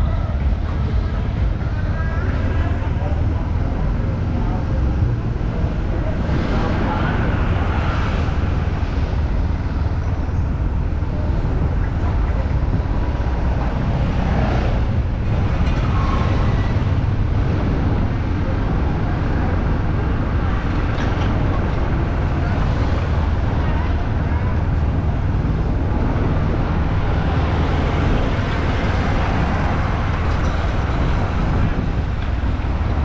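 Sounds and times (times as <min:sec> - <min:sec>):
city street traffic rumble: 0:00.0 - 0:33.0
vehicles passing: 0:00.0 - 0:33.0.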